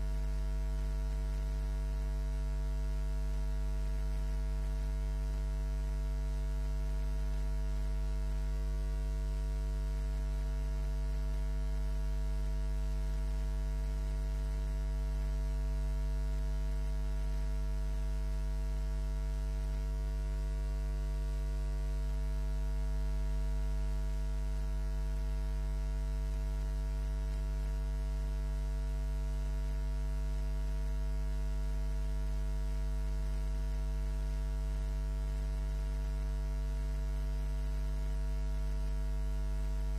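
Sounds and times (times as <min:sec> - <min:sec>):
buzzy electrical mains hum: 0:00.0 - 0:39.9.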